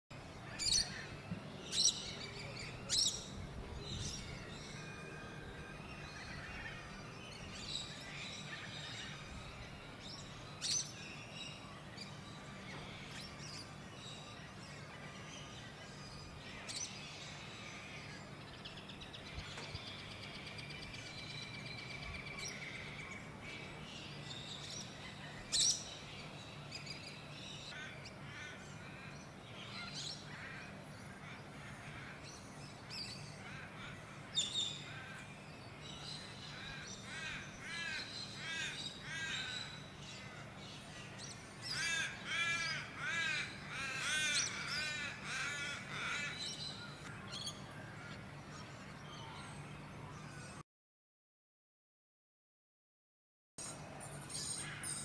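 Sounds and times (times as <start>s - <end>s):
birds chirping: 0.1s - 50.6s.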